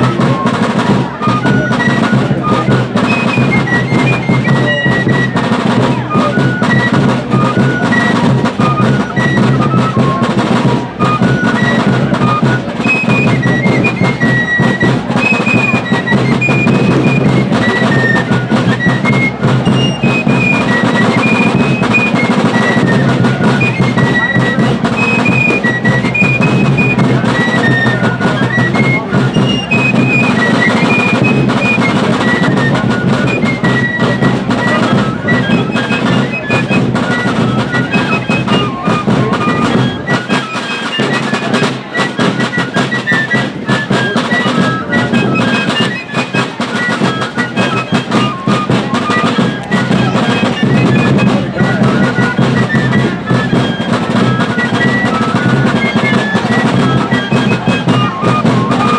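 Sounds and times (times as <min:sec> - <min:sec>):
snare drums: 0:00.0 - 0:58.9.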